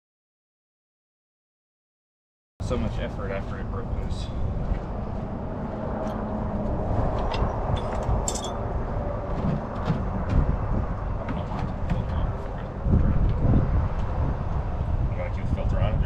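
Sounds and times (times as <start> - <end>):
low vehicle rumble: 2.6 - 16.0.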